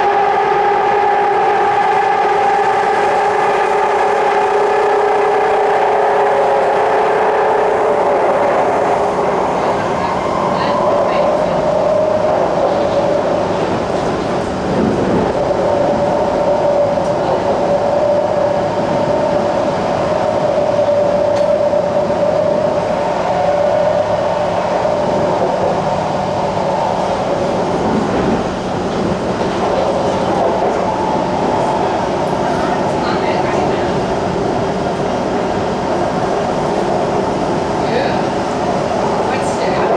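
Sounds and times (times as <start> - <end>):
train drive whine: 0.0 - 39.9
train wheels rumbling on rail: 0.0 - 39.9.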